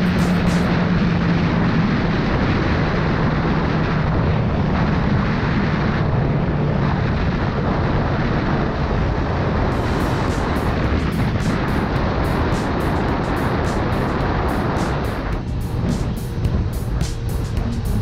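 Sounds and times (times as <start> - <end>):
motorcycle engine hum: 0.0 - 18.0
wind rush over microphone: 0.0 - 18.0.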